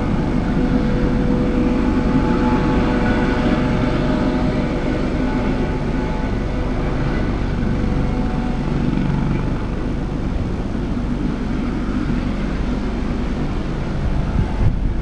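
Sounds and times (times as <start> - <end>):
helicopter engine whine: 0.0 - 15.0
helicopter rotor noise: 0.0 - 15.0
wind buffeting microphone: 0.0 - 15.0.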